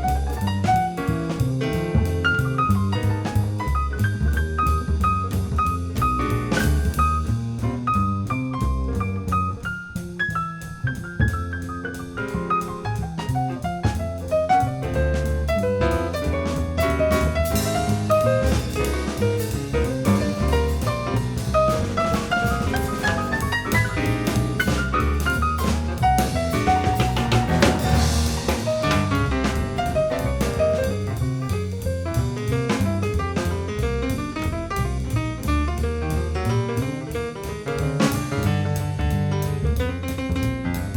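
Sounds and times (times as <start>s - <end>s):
instrumental jazz music: 0.0s - 40.9s.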